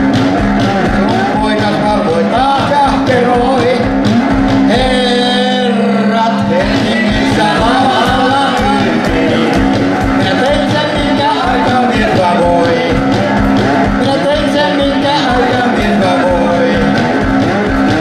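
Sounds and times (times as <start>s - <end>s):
amplified guitar: 0.0s - 18.0s
bass drum beat: 0.0s - 18.0s.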